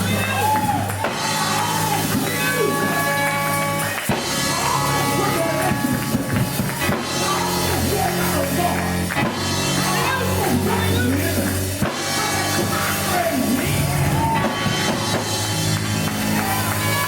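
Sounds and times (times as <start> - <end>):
bass line: 0.0 - 17.0
live band music: 0.0 - 17.0.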